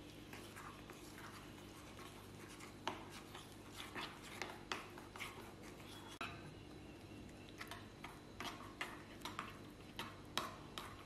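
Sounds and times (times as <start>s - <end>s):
spoon stirring paste in bowl: 0.0s - 11.0s.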